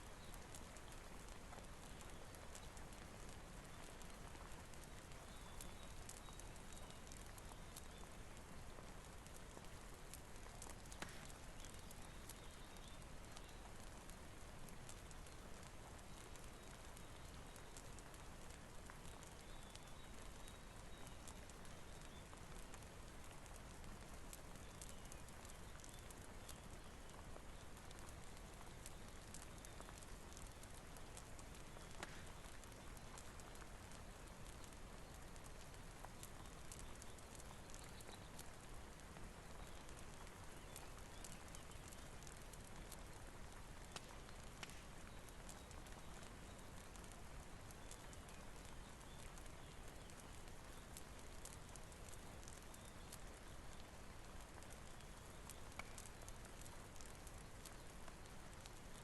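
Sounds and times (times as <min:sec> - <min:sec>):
soft rain hiss: 0:00.0 - 0:59.0
wood fire crackles: 0:00.0 - 0:59.0.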